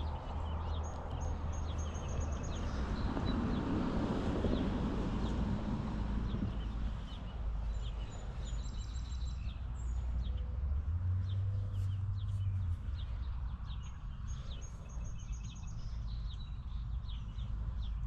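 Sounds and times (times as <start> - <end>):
small birds chirping and trilling: 0.0 - 3.7, 6.3 - 18.0
low engine hum: 0.0 - 18.0.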